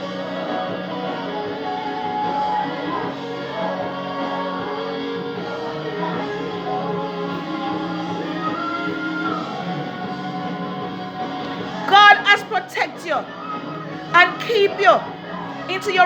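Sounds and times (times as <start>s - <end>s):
worship music with singing: 0.0s - 16.0s.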